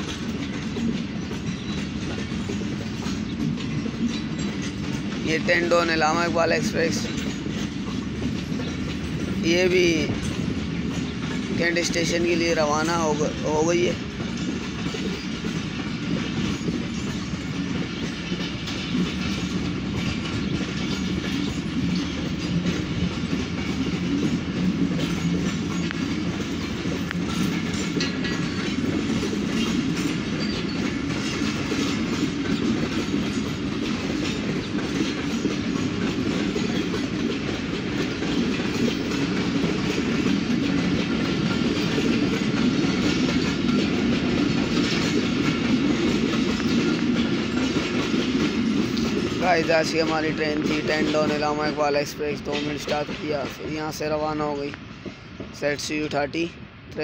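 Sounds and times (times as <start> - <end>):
train rolling rumble: 0.0 - 57.0
train wheels clattering over rail joints: 0.0 - 57.0.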